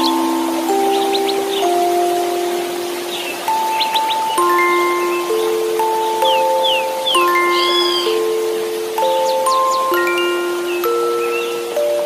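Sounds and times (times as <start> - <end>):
soft bell-like lullaby notes: 0.0 - 12.0
white noise hiss: 0.0 - 12.0.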